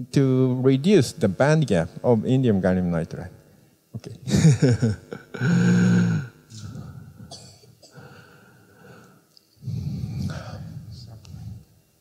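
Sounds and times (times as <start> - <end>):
faint low hall background sound: 0.0 - 12.0.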